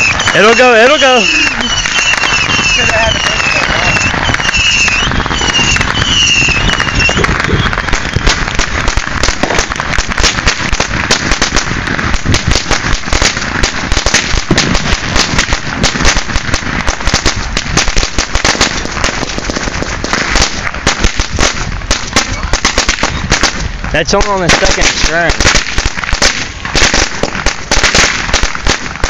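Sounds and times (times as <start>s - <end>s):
firecrackers crackling: 0.0s - 29.0s.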